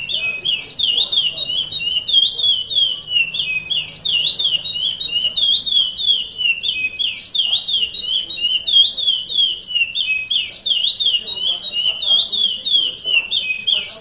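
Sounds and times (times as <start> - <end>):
finch singing whistled notes: 0.0 - 14.0.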